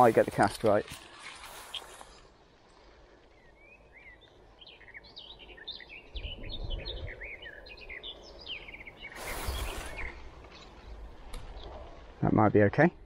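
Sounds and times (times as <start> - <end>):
songbirds chirping and whistling: 1.5 - 12.1.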